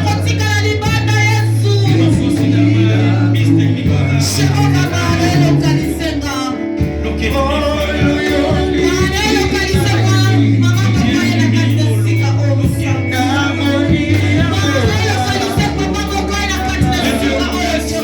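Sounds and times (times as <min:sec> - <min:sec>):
long held bass notes: 0:00.0 - 0:18.0
person singing worship music: 0:00.0 - 0:18.0.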